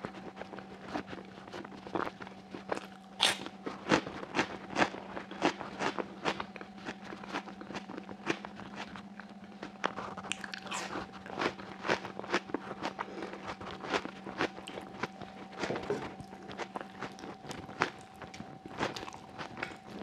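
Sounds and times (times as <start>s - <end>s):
crunchy chewing of raw onion: 0.0s - 20.0s
faint steady hum: 0.0s - 20.0s.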